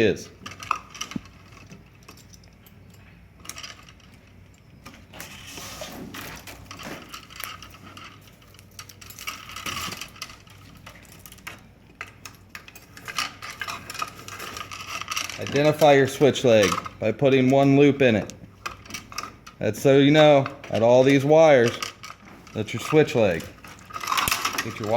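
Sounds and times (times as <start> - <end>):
wiring clicks and metallic clinks: 0.0 - 5.4, 6.1 - 24.9.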